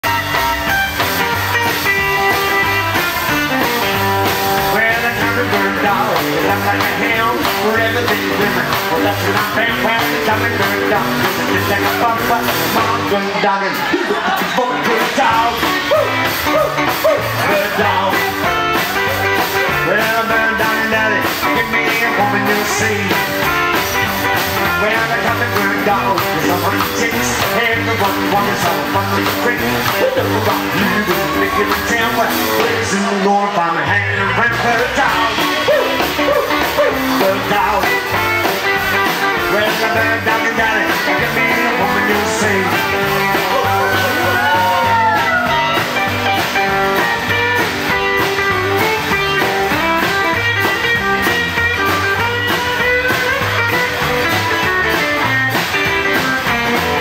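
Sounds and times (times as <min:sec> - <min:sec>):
rockabilly band playing live: 0:00.0 - 0:57.0
man singing: 0:01.2 - 0:52.3.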